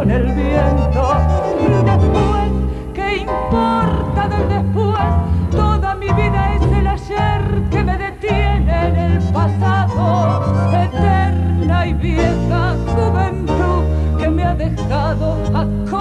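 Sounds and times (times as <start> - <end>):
instrumental accompaniment: 0.0 - 16.0
woman singing tango: 0.0 - 16.0.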